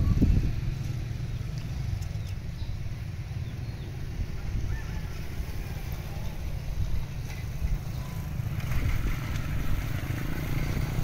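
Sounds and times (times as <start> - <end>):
small motorcycle engines: 0.0 - 11.0.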